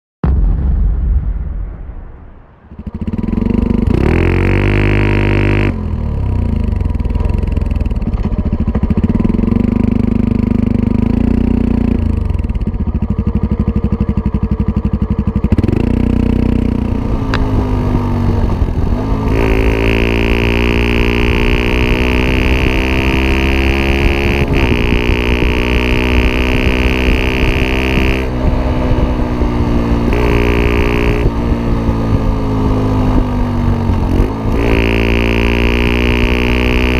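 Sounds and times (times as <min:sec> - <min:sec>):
motorcycle engine revving: 0:02.7 - 0:36.9.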